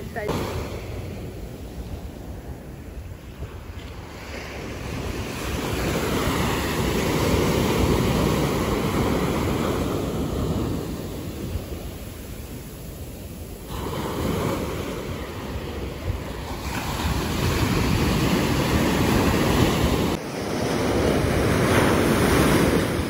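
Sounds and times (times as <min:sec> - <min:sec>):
surf waves washing onto beach: 0:00.0 - 0:23.0
wind rumbling on microphone: 0:00.0 - 0:23.0.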